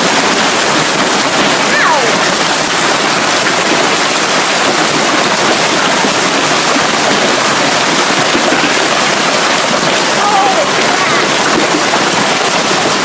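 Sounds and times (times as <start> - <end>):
hail and heavy rain: 0.0 - 13.0.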